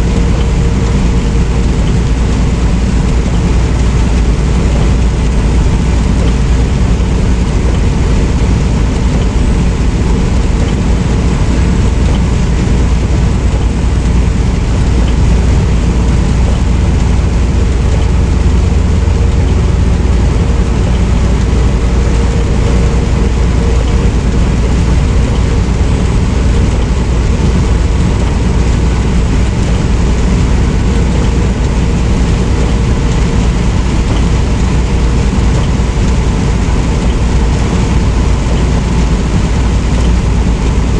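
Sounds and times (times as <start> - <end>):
road and tyre noise: 0.0 - 40.9
truck engine drone: 0.0 - 40.9.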